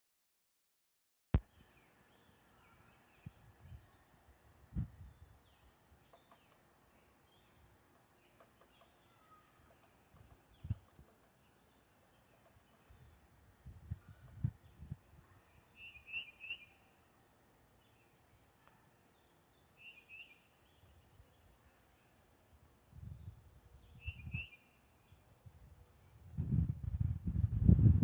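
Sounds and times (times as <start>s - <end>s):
bird chirping call: 1.4s - 17.1s, 17.8s - 22.4s, 23.1s - 26.4s.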